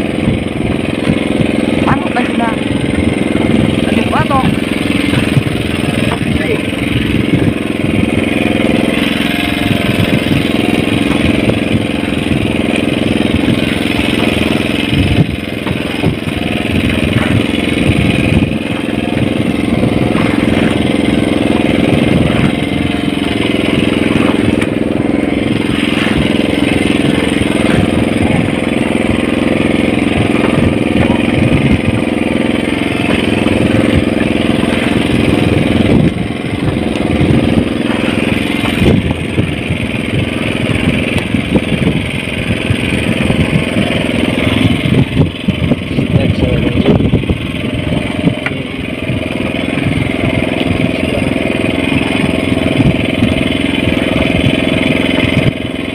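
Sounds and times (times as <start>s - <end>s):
boat engine running: 0.0s - 55.9s.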